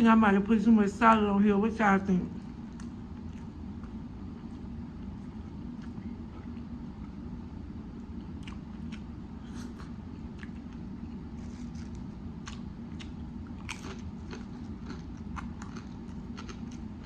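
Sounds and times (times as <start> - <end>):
steady low hum: 0.0 - 17.0
chewing crunchy sandwich: 2.5 - 17.0.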